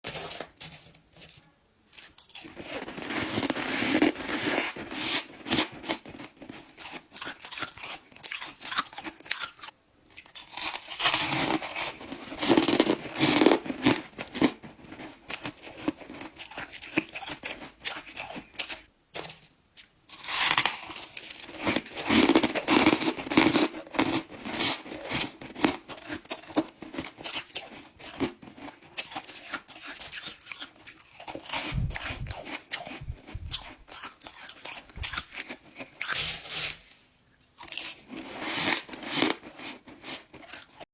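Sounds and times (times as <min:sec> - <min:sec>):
person chewing crunchy ice: 0:02.0 - 0:18.9, 0:20.1 - 0:36.8, 0:37.6 - 0:40.9.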